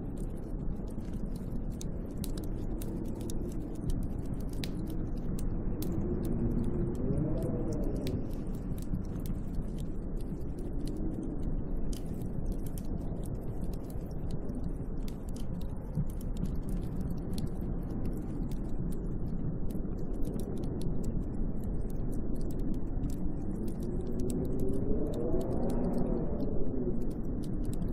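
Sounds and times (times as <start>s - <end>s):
howling wind: 0.0s - 27.9s.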